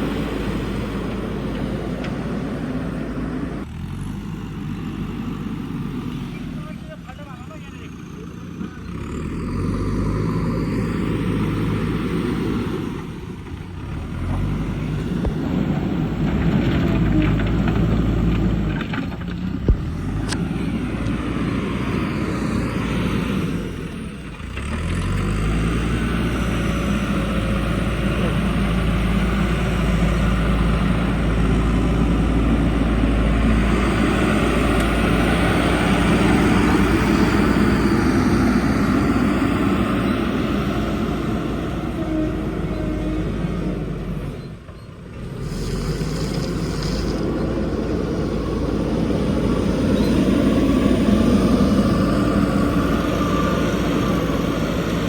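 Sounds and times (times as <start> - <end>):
backhoe diesel engine under load: 0.0 - 55.0.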